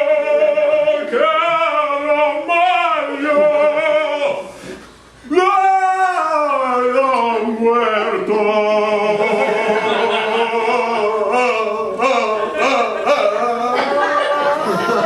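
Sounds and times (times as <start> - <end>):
men singing operatically: 0.0 - 4.5, 5.3 - 14.7.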